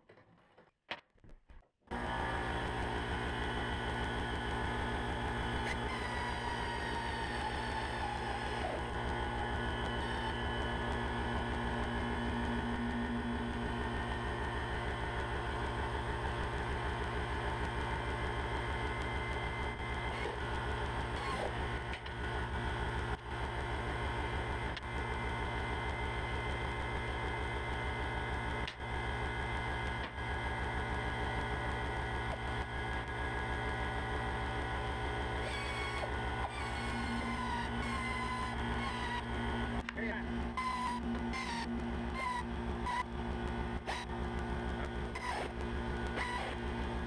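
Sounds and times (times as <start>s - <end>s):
steady mechanical hum: 1.9s - 47.0s.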